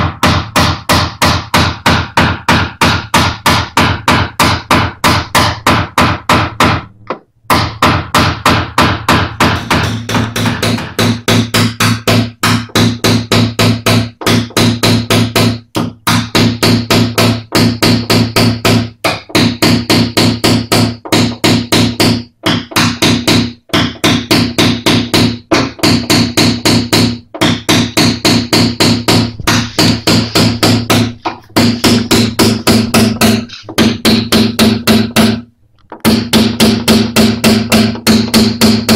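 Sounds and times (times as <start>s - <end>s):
mallet tapping punch on metal: 0.0s - 6.9s, 7.5s - 35.4s, 36.0s - 38.9s.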